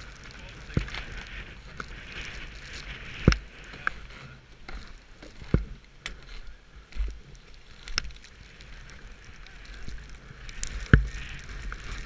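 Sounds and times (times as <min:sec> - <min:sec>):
skis sliding on snow: 0:00.0 - 0:05.8, 0:07.1 - 0:12.0.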